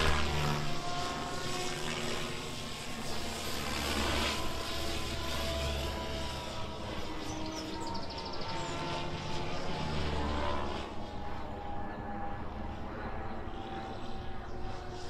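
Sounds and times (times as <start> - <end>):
rc helicopter motor and rotor whine: 0.0 - 15.0.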